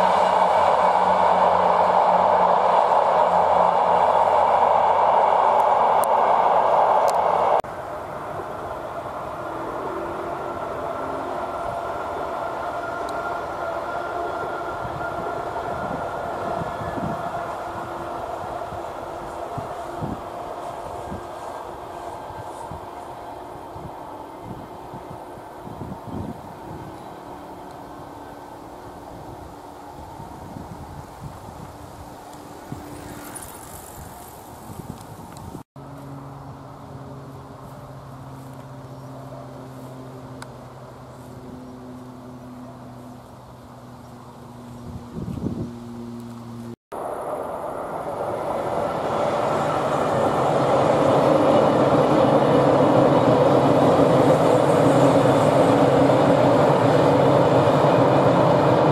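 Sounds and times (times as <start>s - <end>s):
train wheels rumbling on rails: 0.0s - 36.1s, 37.5s - 58.9s
steady whine: 0.0s - 58.9s.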